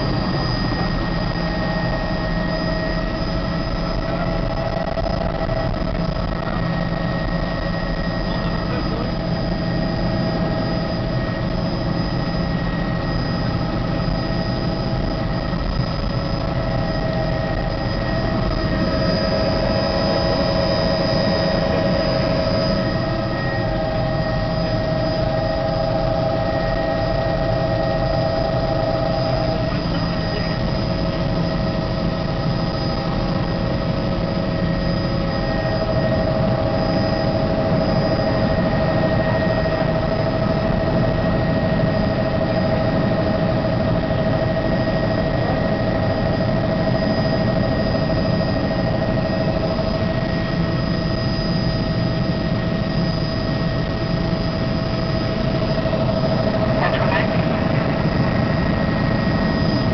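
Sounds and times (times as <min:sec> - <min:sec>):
helicopter engine and rotor rumble: 0:00.0 - 0:59.9
high whine: 0:00.0 - 0:59.9.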